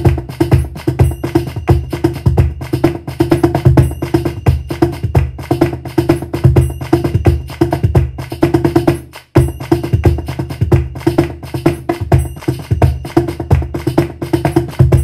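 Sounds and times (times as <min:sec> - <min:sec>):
electronic hand percussion rhythm: 0:00.0 - 0:15.0.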